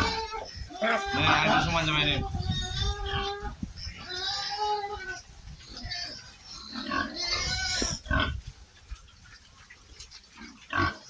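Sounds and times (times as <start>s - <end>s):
pigs grunting and squealing: 0.0s - 8.6s, 9.4s - 11.0s.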